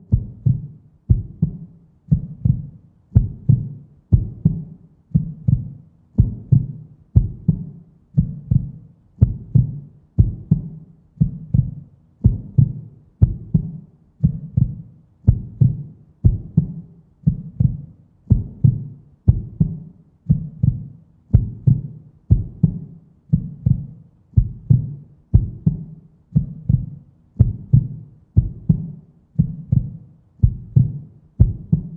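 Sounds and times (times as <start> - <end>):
heartbeat thumps: 0.0 - 31.9.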